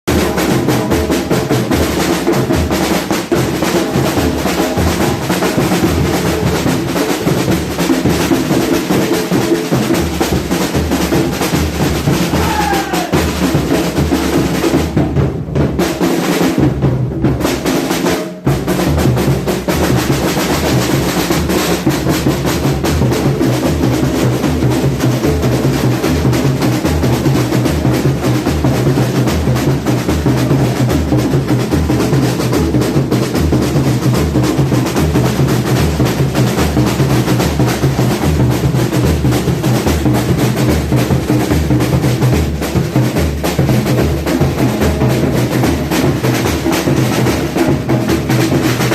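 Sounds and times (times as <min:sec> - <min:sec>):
deep bass drum beats: 0:00.0 - 0:17.7, 0:18.4 - 0:48.9
rolling snare drums: 0:00.0 - 0:48.9.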